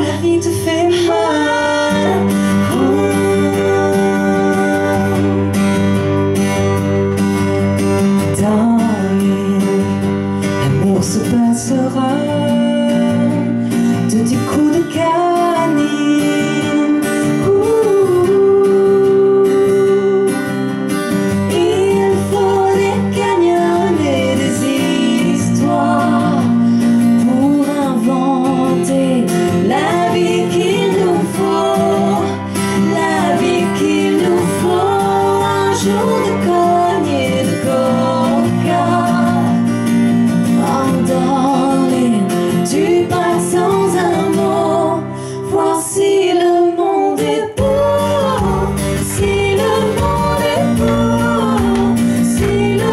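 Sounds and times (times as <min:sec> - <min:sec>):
women singing: 0:00.0 - 0:06.5, 0:08.2 - 0:52.9
electric guitar: 0:00.0 - 0:52.9
strummed acoustic guitar: 0:00.0 - 0:52.9.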